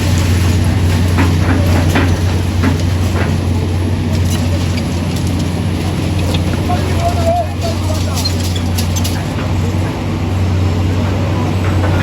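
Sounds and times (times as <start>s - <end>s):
heavy engine humming: 0.0s - 12.0s.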